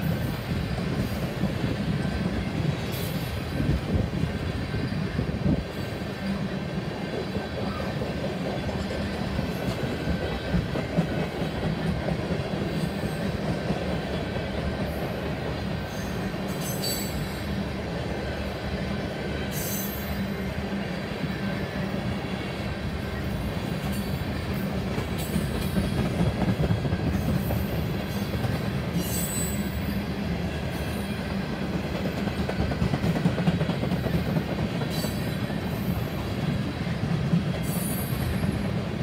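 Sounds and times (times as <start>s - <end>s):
train wheels clattering on rails: 0.0s - 39.0s.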